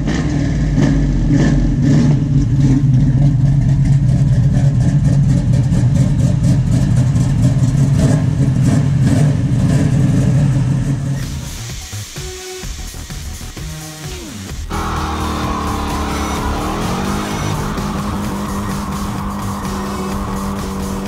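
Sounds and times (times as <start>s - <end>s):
car engine idling: 0.0s - 11.2s, 14.4s - 21.0s.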